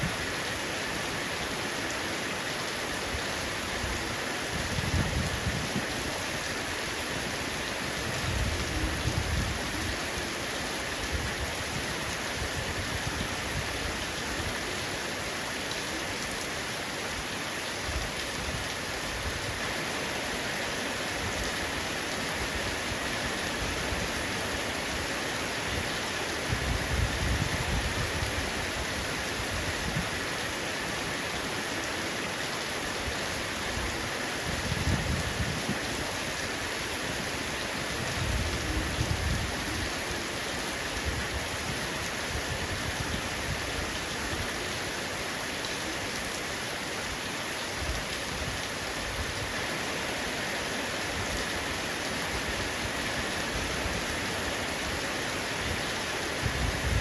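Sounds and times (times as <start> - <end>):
heavy rain on a roof: 0.0 - 57.0.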